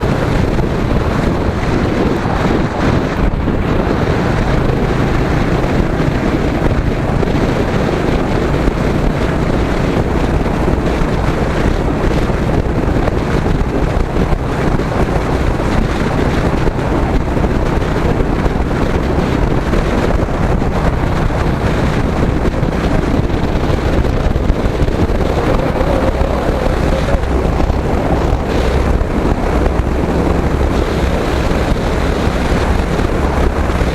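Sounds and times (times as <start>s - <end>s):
motorcycle engine cruising: 0.0s - 33.9s
wind buffeting microphone: 0.0s - 33.9s.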